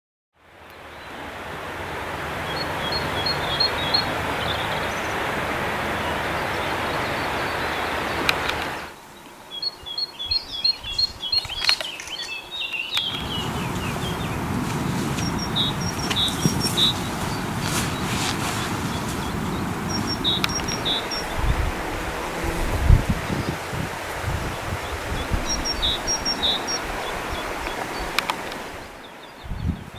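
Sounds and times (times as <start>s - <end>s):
waterfall rushing: 1.0s - 9.0s, 12.9s - 29.3s
small birds chirping: 2.5s - 5.3s, 5.9s - 23.8s, 24.5s - 29.9s.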